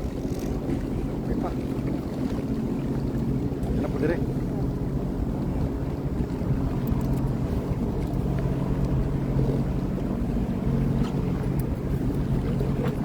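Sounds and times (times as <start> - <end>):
personal watercraft engine running: 0.0 - 13.0
water rushing: 0.0 - 13.0.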